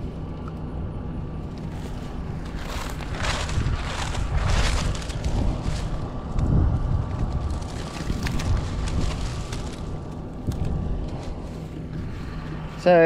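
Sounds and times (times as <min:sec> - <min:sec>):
faint steady hum: 0:00.0 - 0:13.0
wind buffeting microphone: 0:01.3 - 0:13.0.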